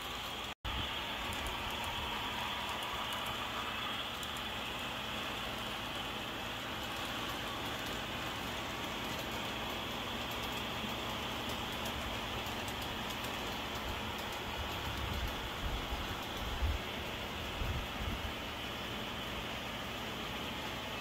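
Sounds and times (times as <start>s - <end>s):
model train rolling rattle: 0.0s - 21.0s
wheels clicking on rails: 0.0s - 21.0s.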